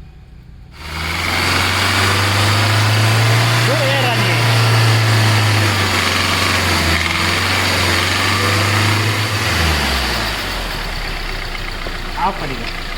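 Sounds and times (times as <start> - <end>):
diesel engine idling: 0.7 - 12.9.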